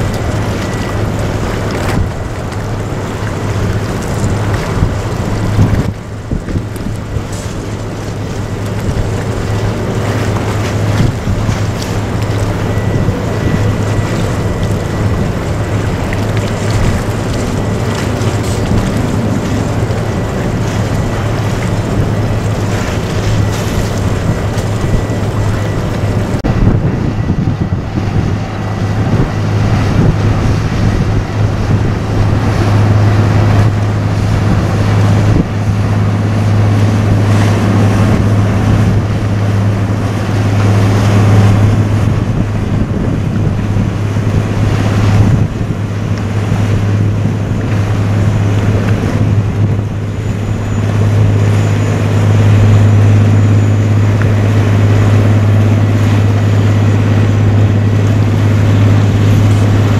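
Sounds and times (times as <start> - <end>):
ship engine drone: 0.0 - 59.9
water washing at bow: 0.0 - 59.9
wind buffeting microphone: 0.0 - 59.9.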